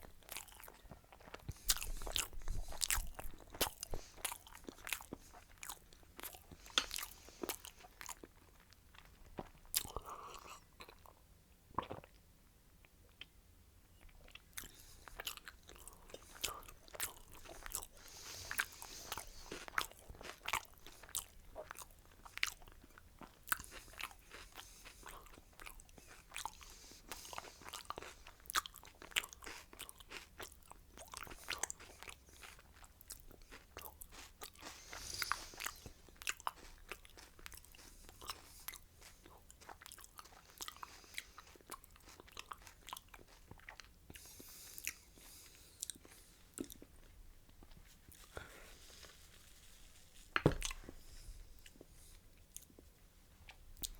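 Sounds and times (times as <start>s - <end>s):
person chewing crunchy food: 0.0s - 11.2s, 11.8s - 12.2s, 14.0s - 49.8s, 50.4s - 53.9s.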